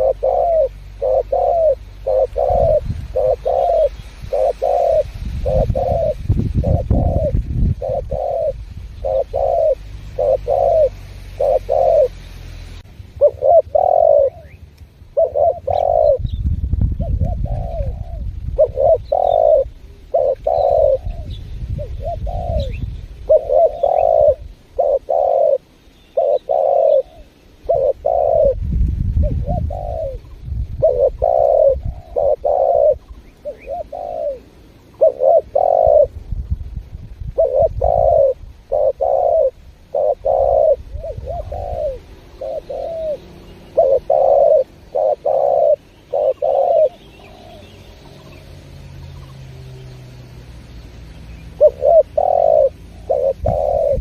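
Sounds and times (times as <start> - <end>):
dove cooing: 0.0 - 16.4, 17.0 - 36.2, 37.2 - 49.8, 51.5 - 54.0.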